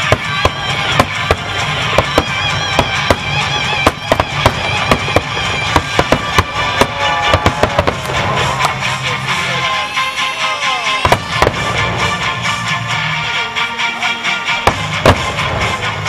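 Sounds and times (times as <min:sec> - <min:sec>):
fireworks bursting: 0:00.0 - 0:12.9, 0:14.5 - 0:16.0
music: 0:00.0 - 0:16.0.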